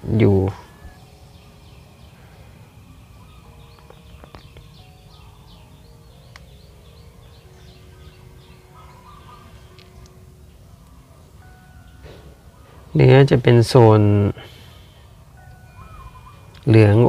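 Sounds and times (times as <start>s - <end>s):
low steady background hum: 0.0s - 17.0s
small bird chirps: 0.7s - 12.8s, 15.4s - 17.0s.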